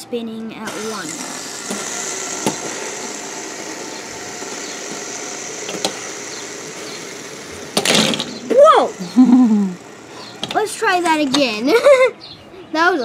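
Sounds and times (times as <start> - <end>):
fidget spinners whirring: 0.6 - 12.0
sharp clicks: 0.7 - 11.5.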